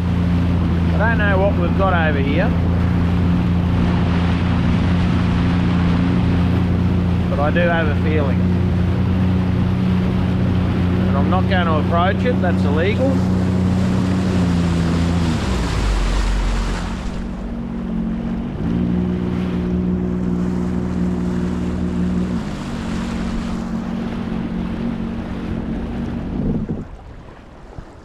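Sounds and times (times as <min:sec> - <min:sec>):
jetski engine running: 0:00.0 - 0:28.0
water rushing: 0:00.0 - 0:28.0
wind: 0:00.0 - 0:28.0.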